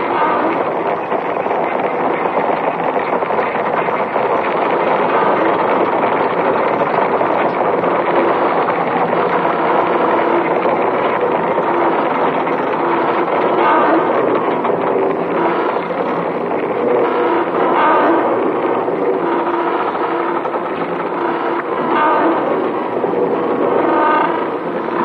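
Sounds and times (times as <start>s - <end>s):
dense machine-like noise: 0.0s - 25.0s.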